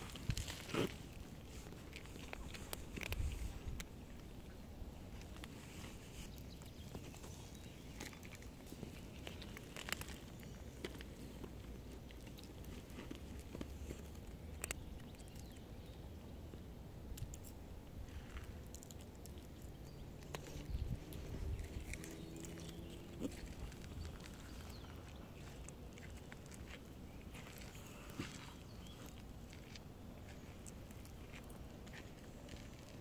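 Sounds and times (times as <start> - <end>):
cat crunching dry kibble: 0.0 - 16.2, 17.0 - 33.0.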